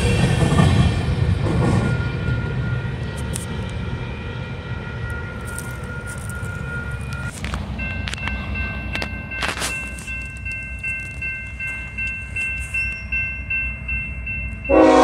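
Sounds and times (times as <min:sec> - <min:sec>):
train rumbling past: 0:00.0 - 0:15.0
high-pitched ringing tones: 0:01.7 - 0:15.0.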